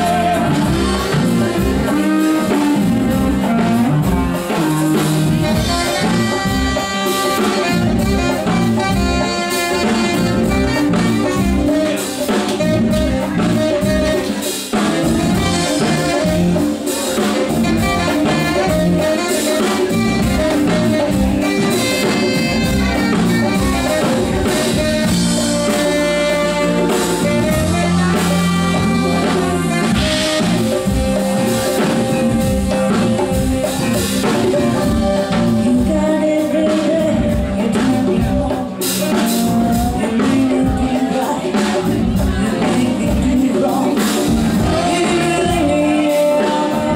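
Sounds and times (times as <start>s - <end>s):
drum kit: 0.0s - 46.9s
electric bass: 0.0s - 46.9s
electric guitar: 0.0s - 46.9s
saxophone solo: 0.0s - 46.9s.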